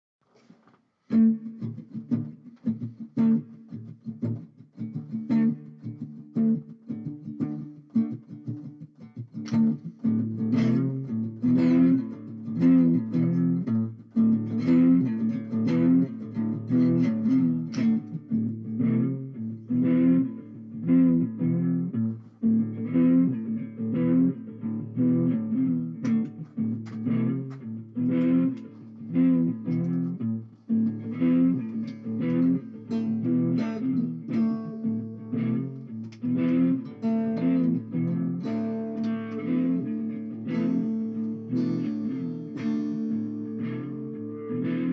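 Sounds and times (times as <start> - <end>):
strummed guitar: 0.4 - 44.9.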